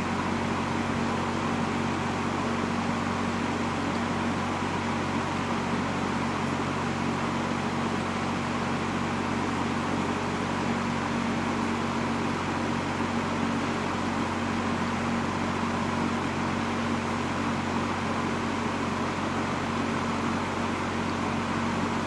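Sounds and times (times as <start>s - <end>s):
box fan running: 0.0s - 22.0s.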